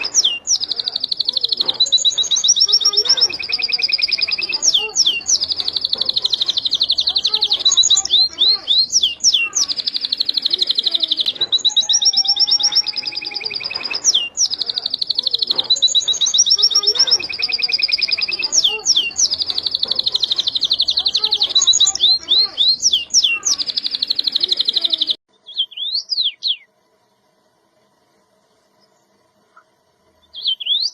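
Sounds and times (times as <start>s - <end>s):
canary singing trills: 0.0s - 26.7s, 28.8s - 30.9s.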